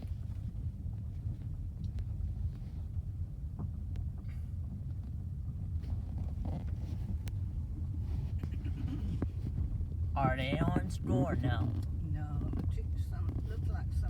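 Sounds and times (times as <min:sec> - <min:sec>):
car cabin rumble while riding: 0:00.0 - 0:14.0.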